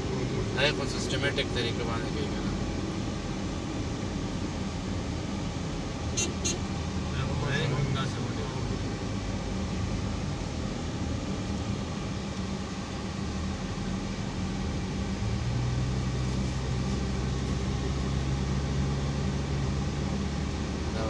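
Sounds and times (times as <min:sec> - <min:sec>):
low engine hum: 0:00.0 - 0:21.0
road noise: 0:00.0 - 0:21.0.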